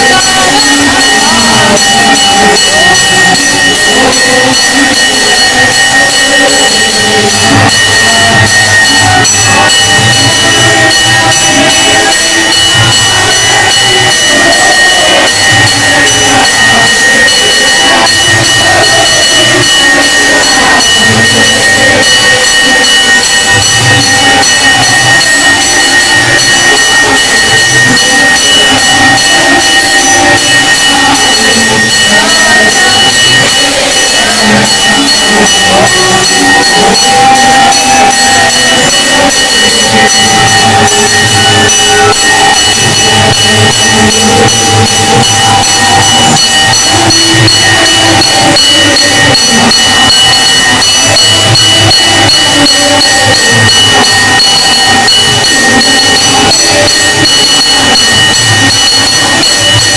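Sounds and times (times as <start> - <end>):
steady high ringing: 0.0 - 59.9.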